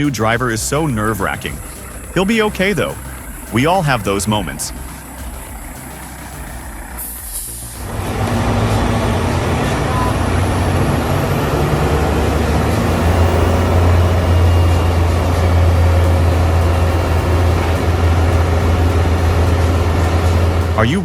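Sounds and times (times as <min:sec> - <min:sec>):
heavy vehicle engine humming: 0:00.0 - 0:21.0.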